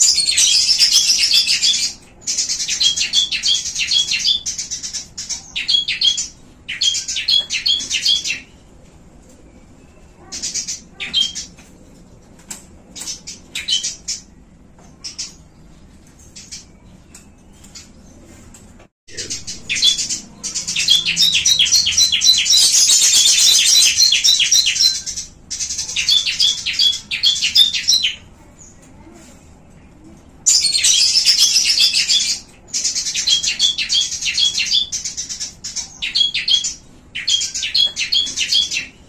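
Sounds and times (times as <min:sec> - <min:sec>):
songbirds chirping: 0:00.0 - 0:39.0.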